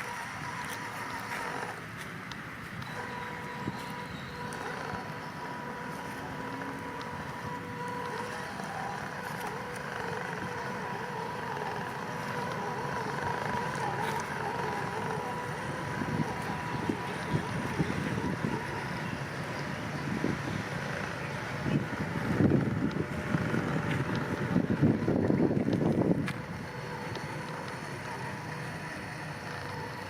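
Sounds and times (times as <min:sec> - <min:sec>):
continuous rumble: 0:00.0 - 0:30.0
rc car motor and gear whine: 0:00.0 - 0:30.0.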